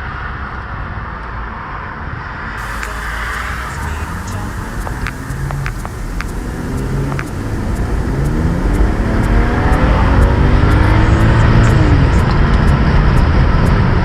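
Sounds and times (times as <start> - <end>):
car engine accelerating: 2.6 - 14.0.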